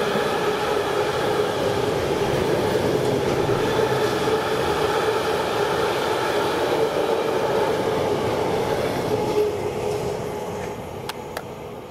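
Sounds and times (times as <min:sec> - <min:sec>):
train wagons rolling on rails: 0:00.0 - 0:11.5.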